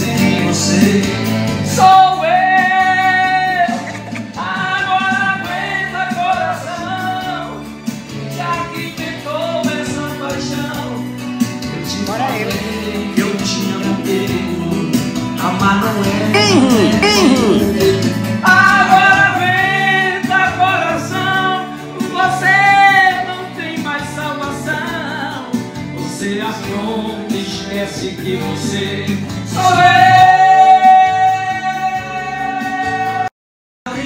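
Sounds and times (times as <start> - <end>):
man singing into a microphone: 0.0 - 7.6, 8.3 - 11.0, 11.7 - 33.3.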